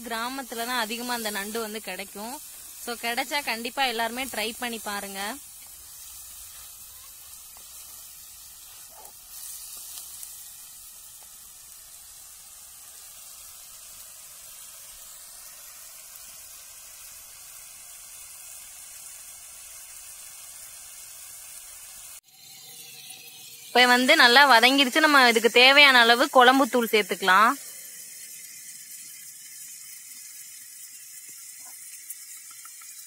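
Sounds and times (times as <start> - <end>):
food frying in oil sizzling: 0.0 - 33.0.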